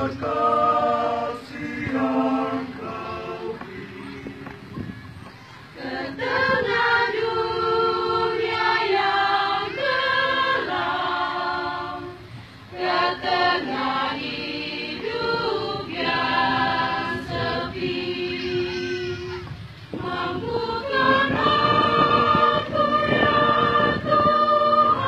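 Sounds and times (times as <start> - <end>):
church choir singing: 0.0 - 4.8, 5.8 - 19.3, 19.9 - 25.0.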